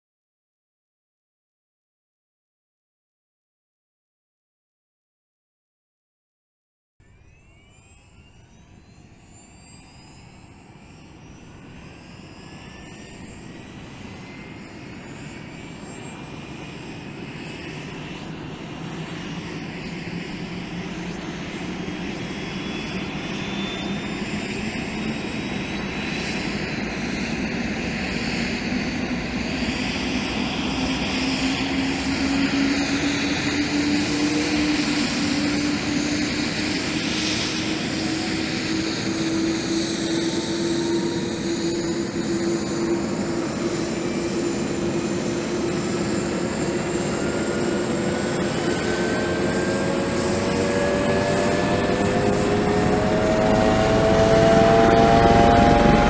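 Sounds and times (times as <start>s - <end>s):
rising whine: 7.0s - 56.0s
helicopter engine and rotor: 7.1s - 56.0s.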